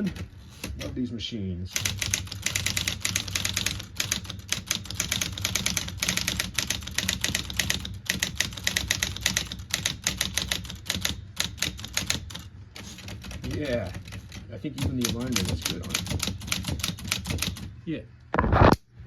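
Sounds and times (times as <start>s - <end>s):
typewriter keys striking: 0.0s - 1.0s, 1.7s - 17.7s
typewriter motor hum: 0.0s - 1.1s, 1.7s - 17.7s.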